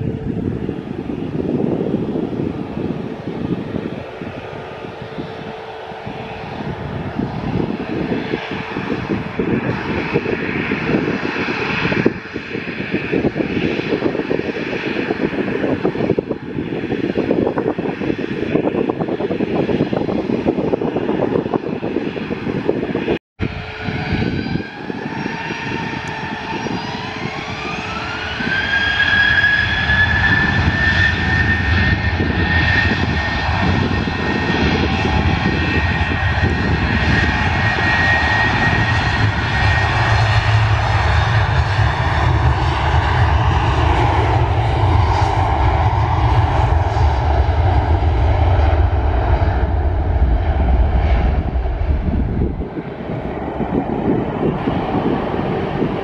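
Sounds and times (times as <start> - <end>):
deep rumble of airliner: 0.0 - 56.0
jet engine whine: 0.0 - 56.0.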